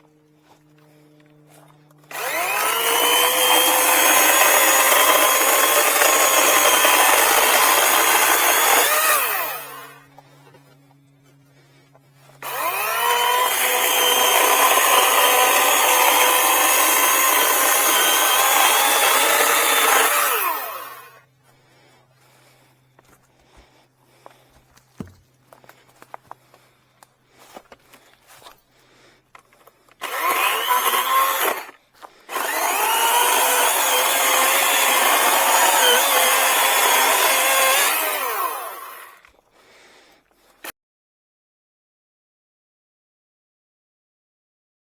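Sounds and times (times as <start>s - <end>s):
battery chainsaw cutting wood: 0.1s - 10.8s, 11.6s - 25.8s, 27.3s - 40.7s.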